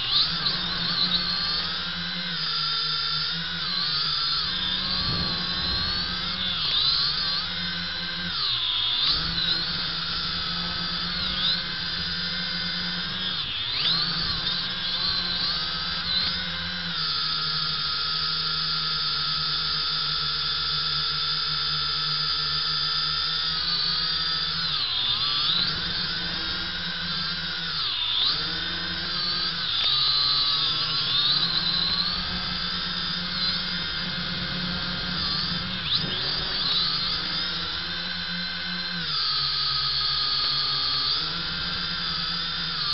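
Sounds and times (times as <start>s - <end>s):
quadcopter propellers whining: 0.0s - 42.9s.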